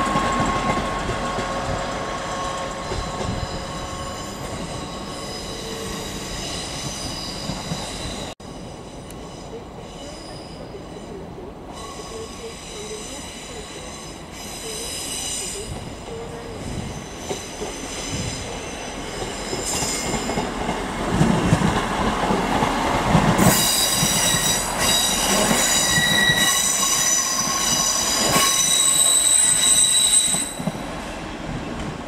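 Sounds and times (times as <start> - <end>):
train running slowly past: 0.0 - 32.0
train wheels squealing: 1.6 - 20.6, 23.4 - 31.8.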